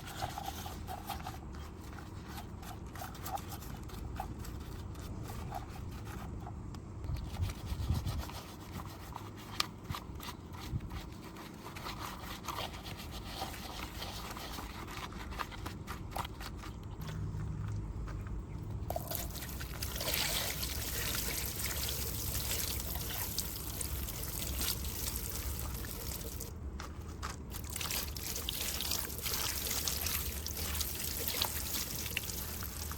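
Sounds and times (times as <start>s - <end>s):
brush scrubbing model car: 0.0s - 6.5s, 7.2s - 16.8s, 19.6s - 32.9s.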